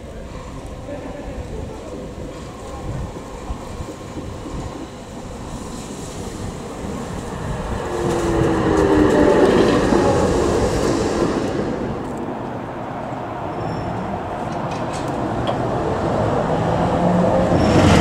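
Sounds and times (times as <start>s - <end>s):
tram rolling past: 0.0s - 18.0s.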